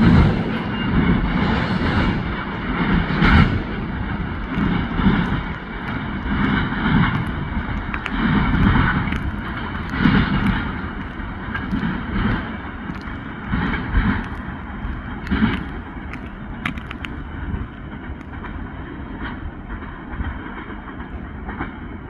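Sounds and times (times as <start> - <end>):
freight train cars rumbling past: 0.0 - 22.0.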